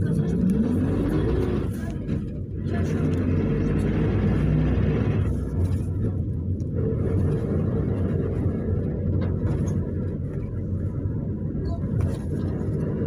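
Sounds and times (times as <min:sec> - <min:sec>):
engine drone: 0:00.0 - 0:13.0
road noise: 0:00.0 - 0:13.0.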